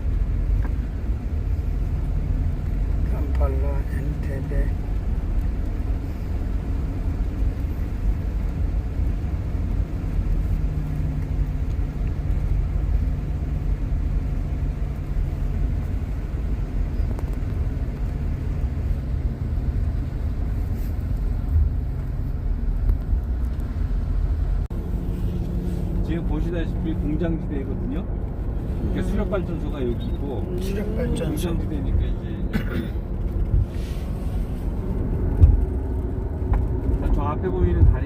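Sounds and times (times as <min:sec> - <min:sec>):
car engine and tyre rumble: 0:00.0 - 0:38.0.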